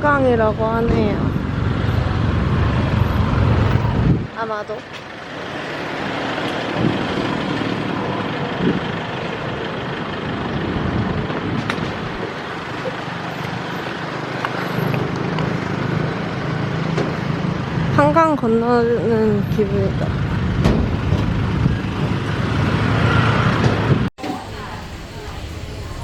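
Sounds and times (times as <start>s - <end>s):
road traffic noise: 0.0s - 26.0s
vehicle engine hum: 0.0s - 26.0s.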